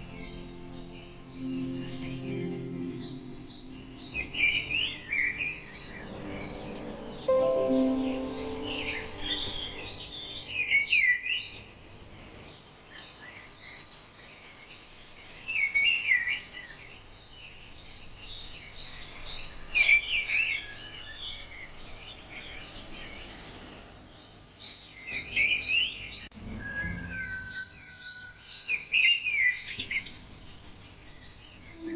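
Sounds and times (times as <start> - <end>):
birds chirping and warbling: 0.0 - 31.9.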